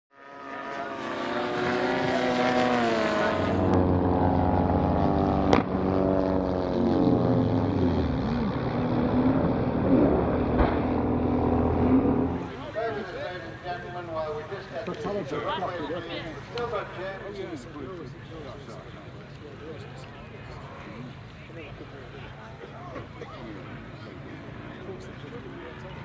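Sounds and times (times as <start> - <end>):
model aircraft engines: 0.1 - 26.0.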